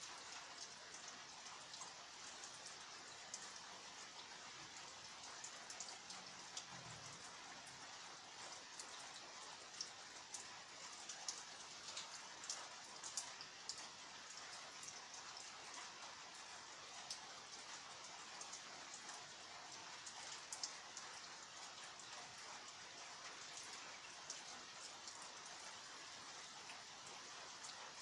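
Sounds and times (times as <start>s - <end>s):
raindrops ticking: 0.1s - 28.0s.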